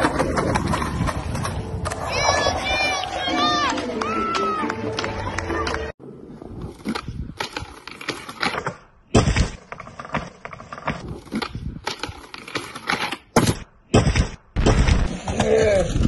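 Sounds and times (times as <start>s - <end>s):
skateboard wheels rolling on concrete: 0.0s - 13.4s.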